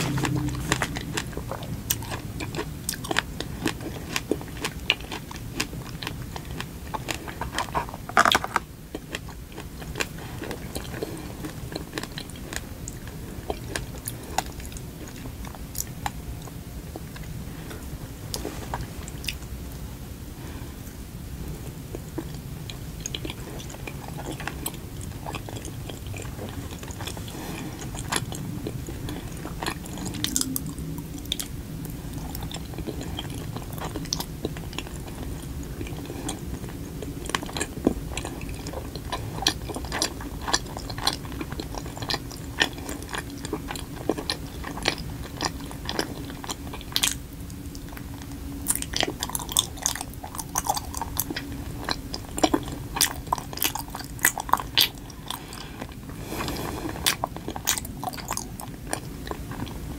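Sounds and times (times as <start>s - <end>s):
person chewing: 0.0s - 19.5s, 21.5s - 59.9s.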